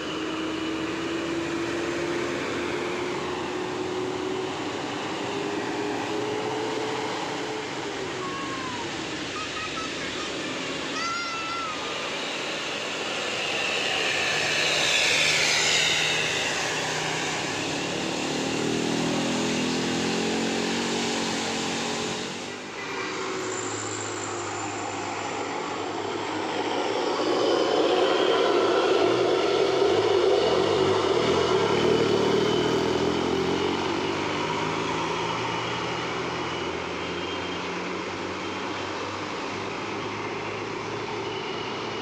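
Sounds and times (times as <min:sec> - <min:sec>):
vehicles passing by: 0:00.0 - 0:42.0.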